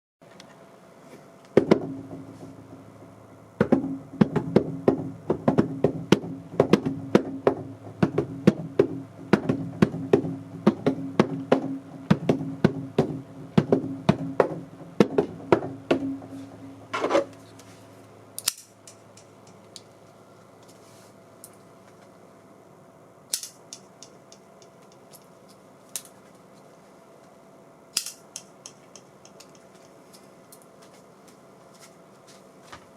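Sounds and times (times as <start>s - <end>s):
steady low hum: 0.2s - 32.9s.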